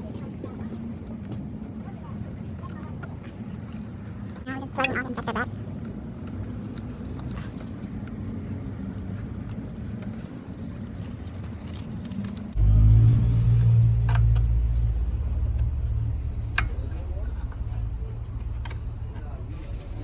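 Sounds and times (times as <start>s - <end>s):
truck engine humming: 1.9s - 20.0s.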